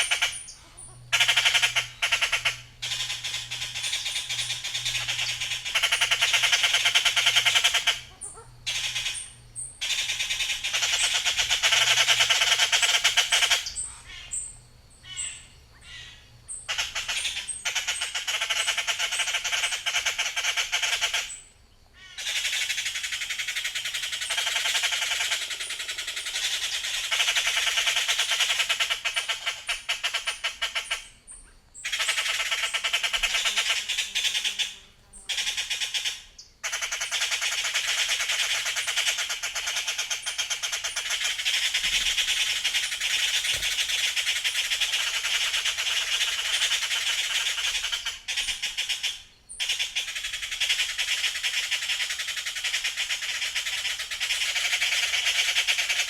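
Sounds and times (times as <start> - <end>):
birds squawking harshly: 0.0 - 56.0.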